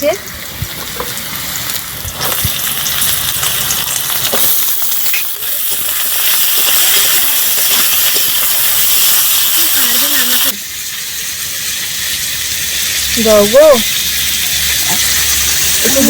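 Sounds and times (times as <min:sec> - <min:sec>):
potatoes and onions sizzling in oil: 0:00.0 - 0:16.0.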